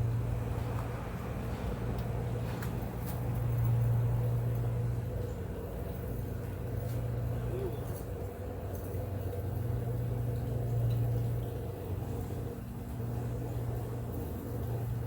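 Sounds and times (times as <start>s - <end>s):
gas forge burner rumble: 0.0s - 15.0s.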